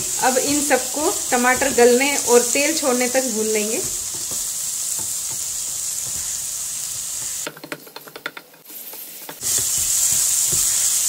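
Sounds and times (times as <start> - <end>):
masala sizzling in oil: 0.0 - 11.0
spatula scraping and tapping pan: 0.3 - 11.0.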